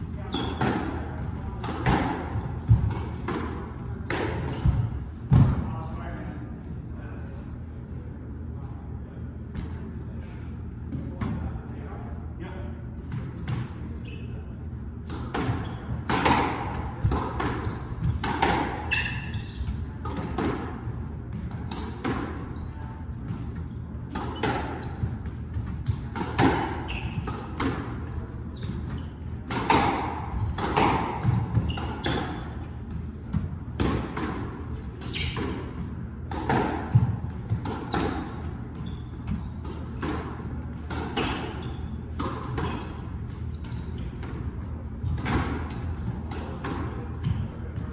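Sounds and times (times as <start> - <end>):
squash ball hitting rackets and walls: 0.0 - 5.8, 13.0 - 14.3, 14.9 - 47.9.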